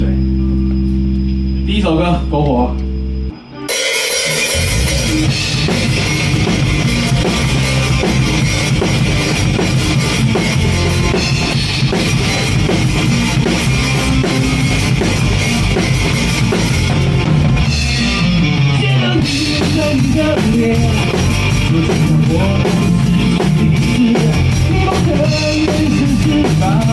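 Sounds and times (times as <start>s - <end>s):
rock band playing instrumental: 2.8s - 26.9s.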